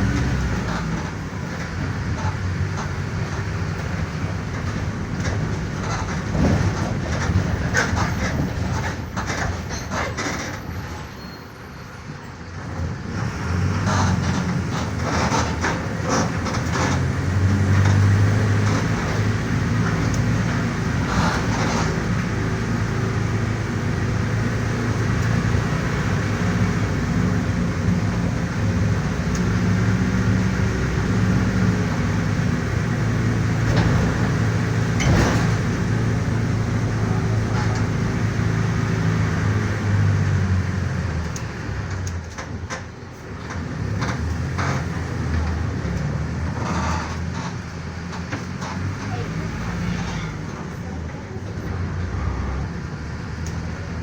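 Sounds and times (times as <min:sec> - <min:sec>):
bus body rattling: 0:00.0 - 0:54.0
diesel bus engine running: 0:00.0 - 0:54.0.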